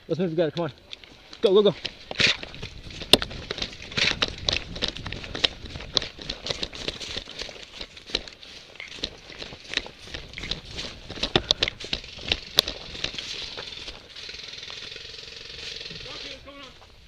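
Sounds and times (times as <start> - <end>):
footsteps through dry leaves: 1.1 - 17.0.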